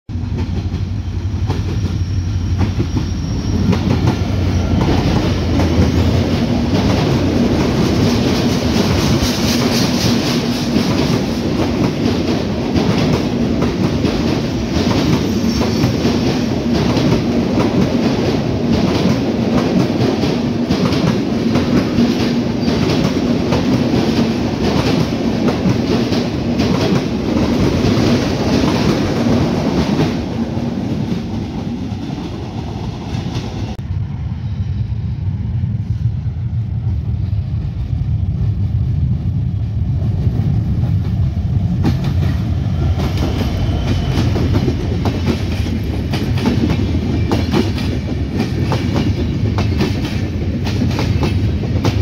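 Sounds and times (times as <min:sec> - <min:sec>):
train wheels clickety-clack: 0:00.1 - 0:33.8, 0:39.6 - 0:52.0.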